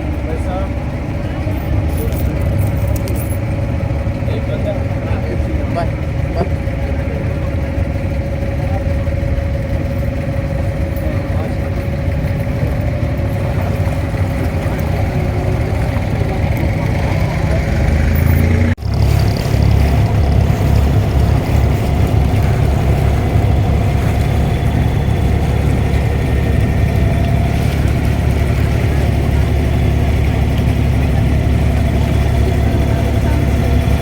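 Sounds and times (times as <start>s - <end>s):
diesel boat engine running: 0.0s - 34.0s.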